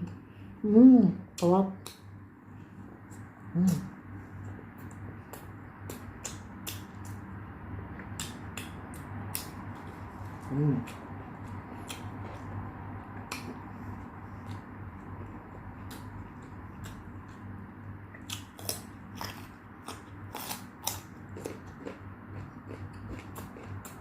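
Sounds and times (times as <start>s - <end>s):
steady low hum: 0.0s - 24.0s
person chewing food: 2.8s - 24.0s.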